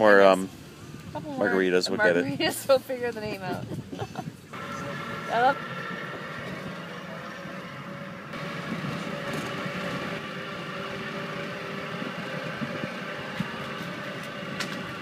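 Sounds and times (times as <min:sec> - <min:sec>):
vehicle motor and road noise: 0:00.0 - 0:15.0.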